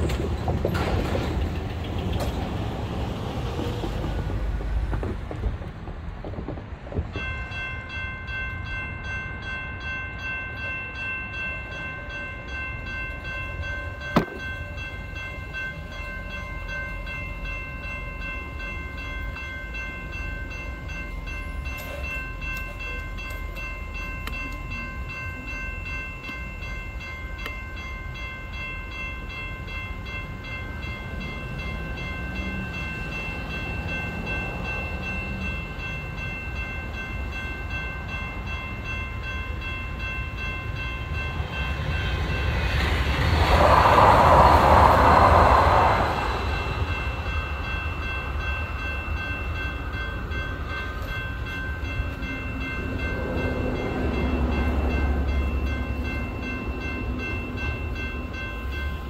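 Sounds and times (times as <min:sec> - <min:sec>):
train passing: 0:00.0 - 0:59.0
crossing warning bell ringing: 0:07.1 - 0:59.0.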